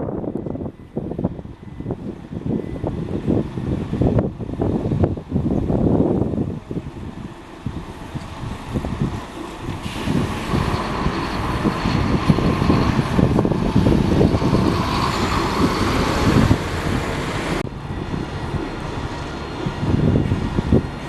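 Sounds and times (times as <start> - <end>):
heavy vehicle rumble: 0.0 - 21.0.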